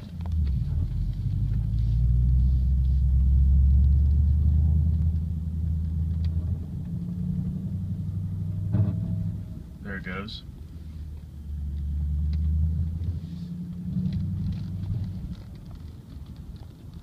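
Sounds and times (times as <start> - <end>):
car engine rumbling under load: 0.0 - 17.0.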